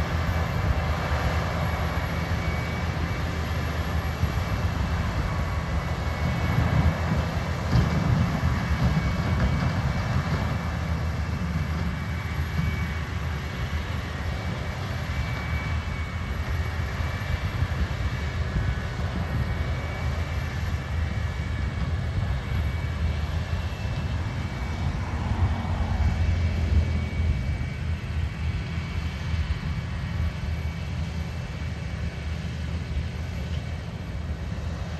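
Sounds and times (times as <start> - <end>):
low engine drone: 0.0 - 34.9.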